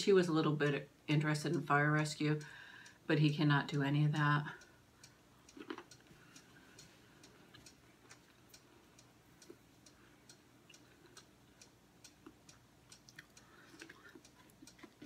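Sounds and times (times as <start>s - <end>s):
clock ticking faintly: 0.0s - 15.0s.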